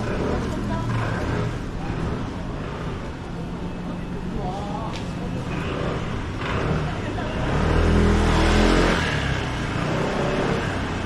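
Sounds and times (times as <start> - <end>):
vehicle passing with engine revving: 0.0 - 3.4, 5.3 - 11.0
scattered voices: 0.0 - 10.9
street noise: 0.0 - 11.0.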